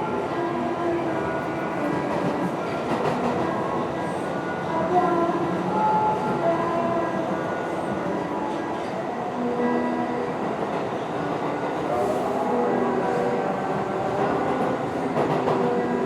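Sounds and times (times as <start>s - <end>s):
train in motion: 0.0s - 16.0s.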